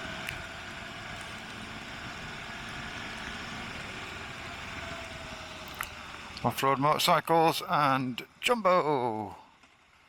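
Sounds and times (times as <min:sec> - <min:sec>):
motorcycle engine: 0:00.0 - 0:10.0
road noise on wet road: 0:00.0 - 0:10.0.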